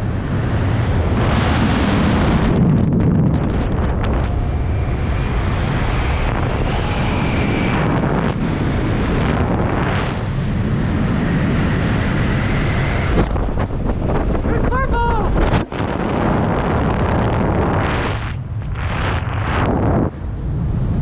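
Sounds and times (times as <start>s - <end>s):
airflow rushing over microphone: 0.0s - 21.0s.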